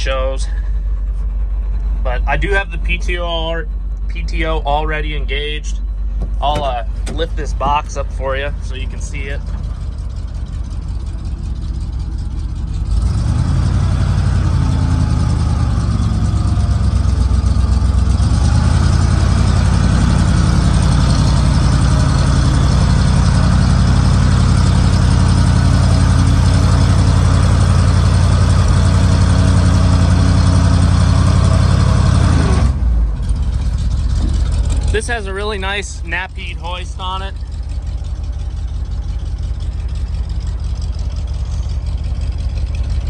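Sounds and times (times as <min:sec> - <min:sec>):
truck engine revving: 0:00.0 - 0:43.0.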